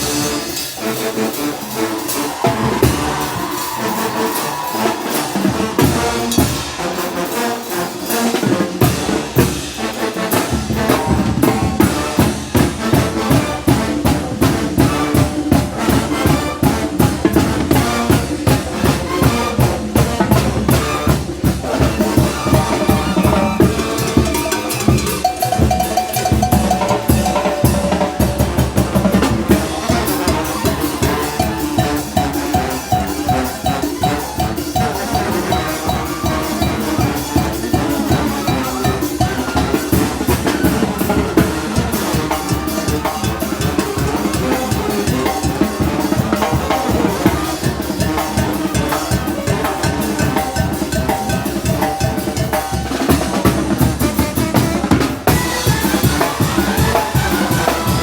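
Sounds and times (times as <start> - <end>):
bass drum snare and cymbals: 0.0 - 58.0
brass band playing: 0.0 - 58.0.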